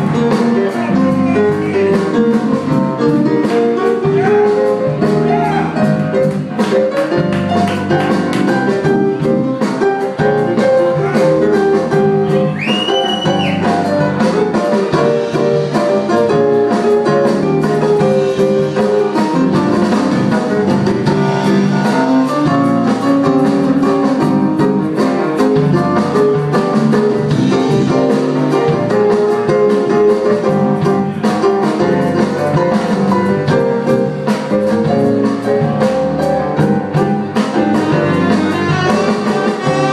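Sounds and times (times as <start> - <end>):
jazz band playing: 0.0 - 39.9.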